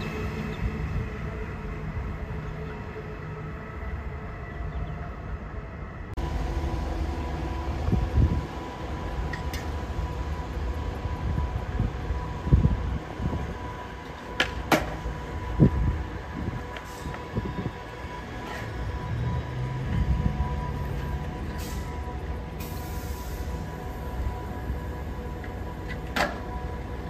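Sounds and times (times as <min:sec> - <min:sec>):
electric train hum and rumble: 0:00.0 - 0:27.0
steady whine: 0:00.0 - 0:27.0.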